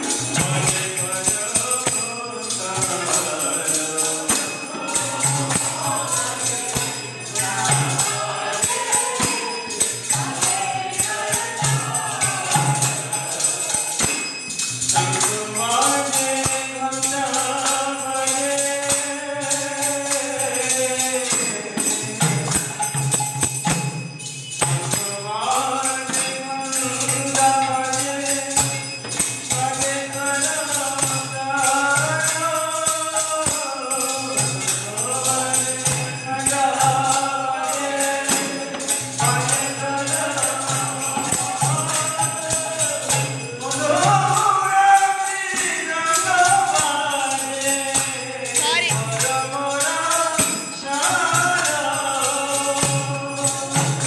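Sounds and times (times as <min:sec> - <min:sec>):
hand cymbals struck: 0:00.0 - 0:54.0
voices singing a chant: 0:00.0 - 0:54.0.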